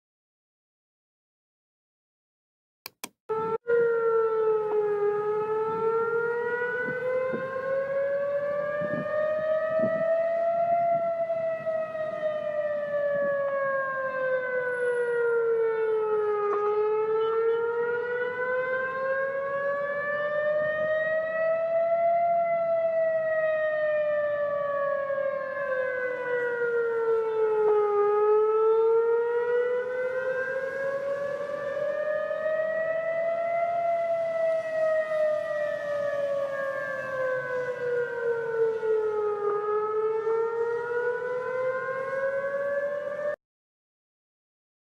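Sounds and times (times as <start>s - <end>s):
emergency siren rising and falling: 3.3s - 43.4s.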